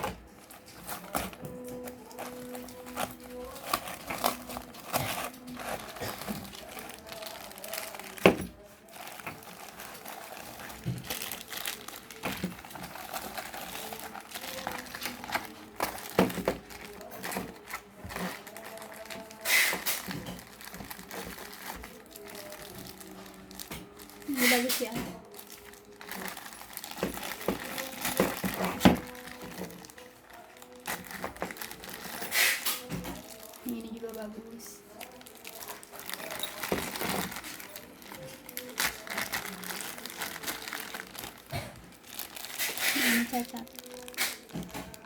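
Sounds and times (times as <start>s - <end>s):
packaging crinkling and rustling: 0.0s - 45.0s.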